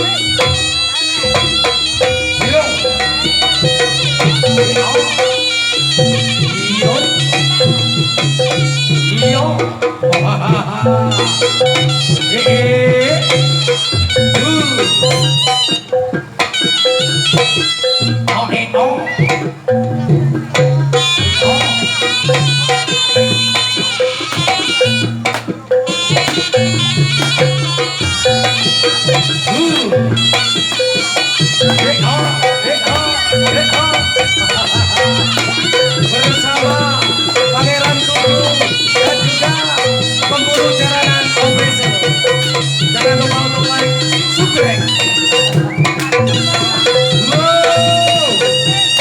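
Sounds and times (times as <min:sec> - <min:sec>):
shrill reed wind instrument: 0:00.0 - 0:18.3, 0:20.8 - 0:49.0
sharp percussive hits: 0:00.0 - 0:18.4, 0:19.3 - 0:49.0
low repeating accompaniment: 0:00.0 - 0:49.0.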